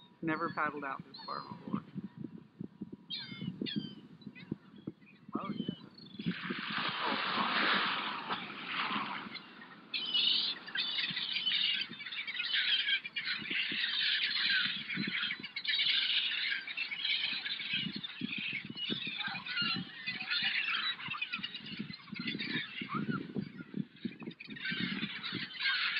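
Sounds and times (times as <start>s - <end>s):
gulls squawking: 0.3s - 1.8s, 3.1s - 25.9s.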